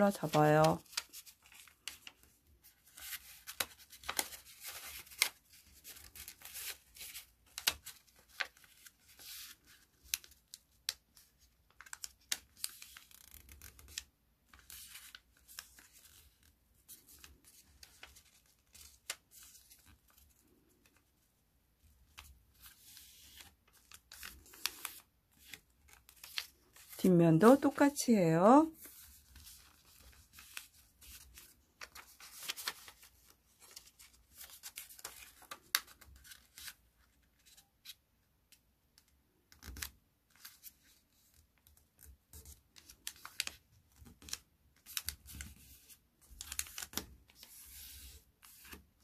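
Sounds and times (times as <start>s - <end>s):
paper being folded: 0.0s - 21.0s, 21.9s - 27.9s, 28.8s - 38.0s, 39.5s - 49.0s.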